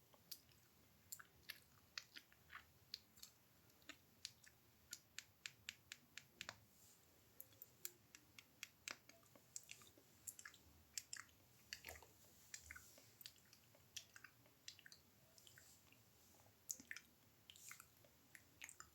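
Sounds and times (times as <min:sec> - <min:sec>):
wet tongue and lip clicks: 0:00.1 - 0:06.6, 0:07.4 - 0:16.0, 0:16.6 - 0:18.9.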